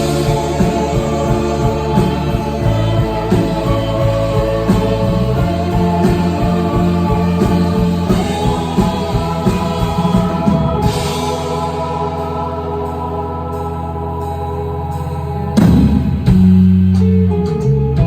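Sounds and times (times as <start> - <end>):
voices singing: 0.0 - 16.3
rock band playing live: 0.0 - 18.0.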